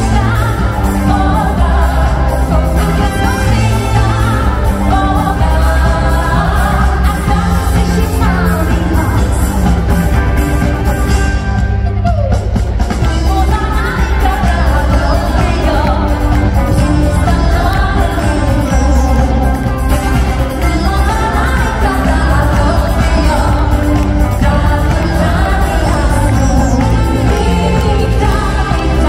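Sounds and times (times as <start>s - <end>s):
live pop music with singer: 0.0s - 29.0s.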